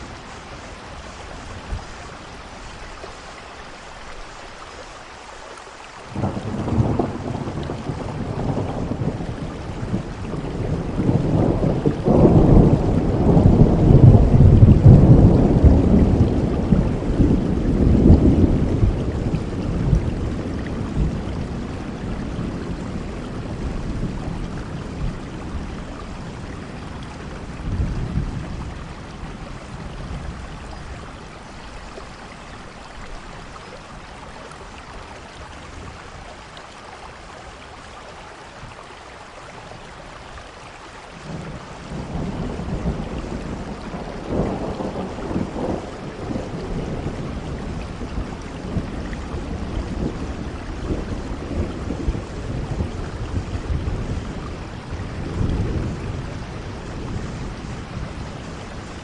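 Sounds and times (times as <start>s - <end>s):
low rumble of thunder: 0.0s - 3.1s, 6.1s - 36.7s, 39.4s - 59.0s
steady rainfall: 0.0s - 59.0s.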